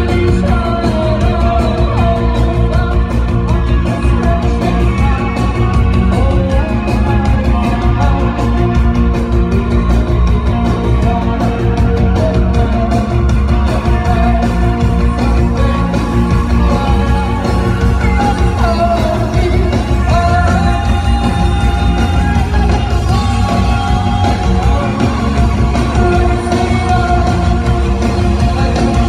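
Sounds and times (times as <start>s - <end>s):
drum kit: 0.0s - 29.0s
electric guitar: 0.0s - 29.0s
person singing loudly: 0.0s - 29.0s.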